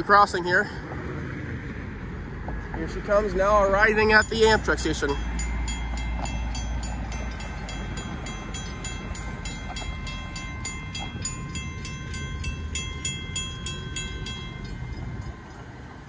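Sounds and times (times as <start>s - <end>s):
crossing warning bells ringing: 2.5s - 16.0s.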